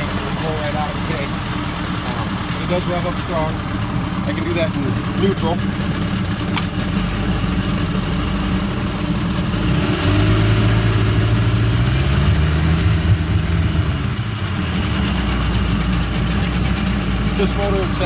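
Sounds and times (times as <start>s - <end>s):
outboard motor revving: 0.0s - 18.0s.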